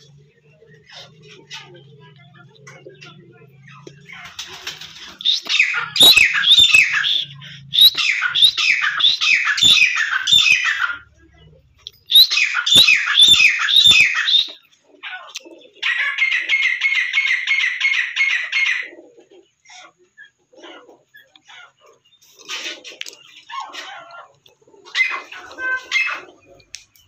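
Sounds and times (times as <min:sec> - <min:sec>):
francolins calling: 0:00.0 - 0:22.4.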